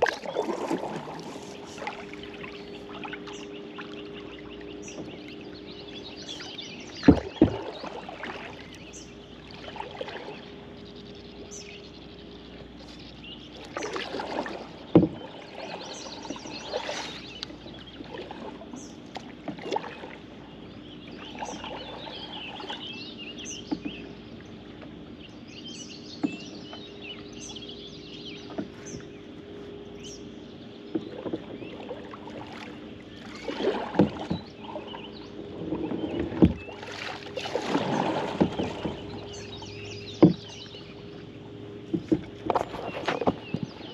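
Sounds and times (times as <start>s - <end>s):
birds chirping: 0.0s - 43.9s
faint steady hum: 0.0s - 43.9s
paddle splashing in water: 0.0s - 43.9s.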